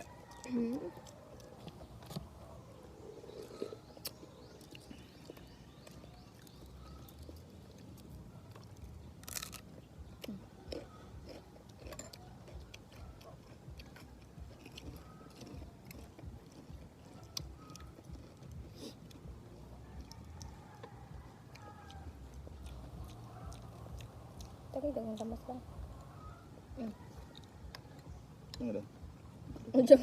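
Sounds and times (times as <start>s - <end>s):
person chewing crunchy food: 0.0s - 24.7s.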